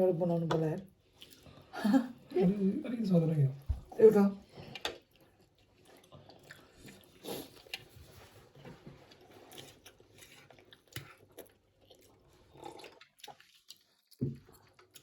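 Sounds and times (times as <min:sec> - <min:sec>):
faint chewing of food: 0:00.8 - 0:02.3, 0:03.6 - 0:15.0.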